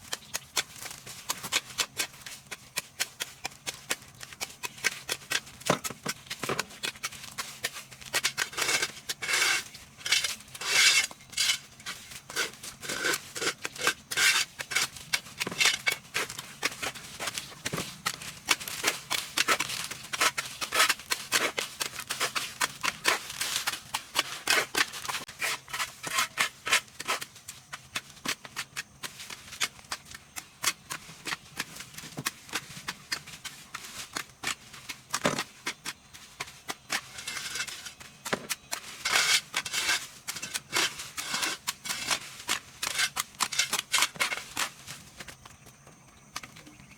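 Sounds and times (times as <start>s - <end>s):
scraping and clicking strokes: 0.0s - 45.4s.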